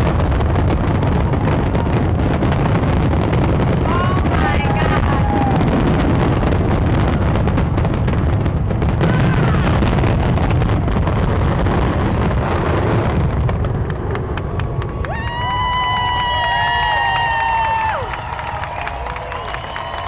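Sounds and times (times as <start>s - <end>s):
continuous low rumble: 0.0s - 20.0s
fireworks booms and crackling: 0.0s - 20.0s.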